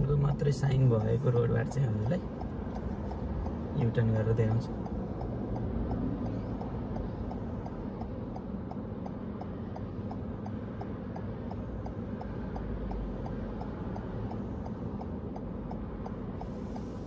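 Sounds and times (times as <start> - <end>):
car turn indicator ticking: 0.0 - 17.0
low car hum: 0.0 - 17.0
passing traffic: 0.0 - 17.0.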